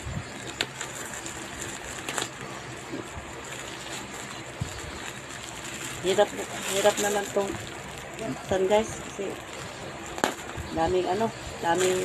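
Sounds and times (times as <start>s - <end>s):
plastic wrapping and tape rustling: 0.0s - 12.0s
sharp crinkle: 0.2s - 12.0s.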